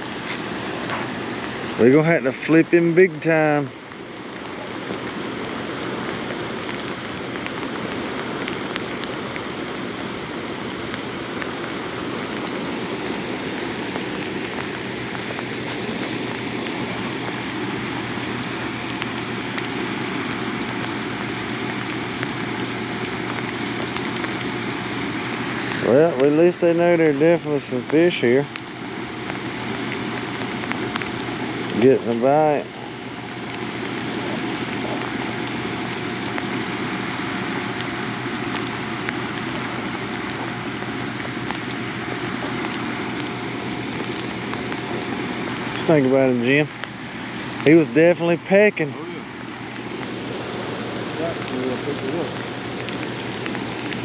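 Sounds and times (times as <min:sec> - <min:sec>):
rain drop ticks: 0:00.0 - 0:54.0
rushing water below a spillway: 0:00.0 - 0:54.0
steady rain: 0:00.0 - 0:54.0.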